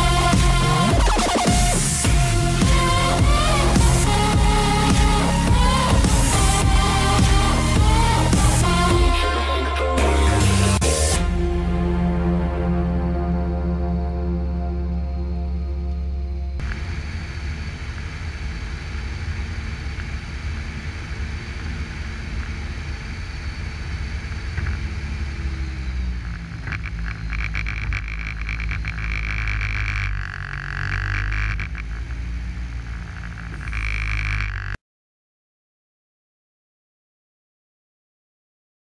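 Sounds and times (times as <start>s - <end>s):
diesel tractor engine rumbling: 0.0s - 34.8s
high whine: 0.0s - 34.8s.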